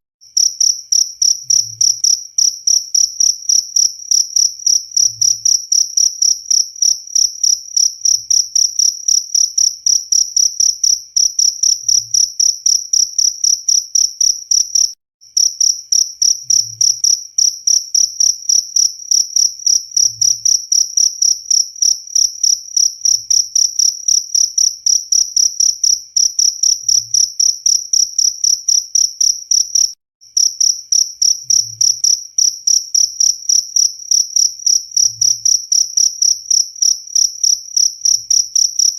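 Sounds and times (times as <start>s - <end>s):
cricket chirping: 0.3s - 38.9s.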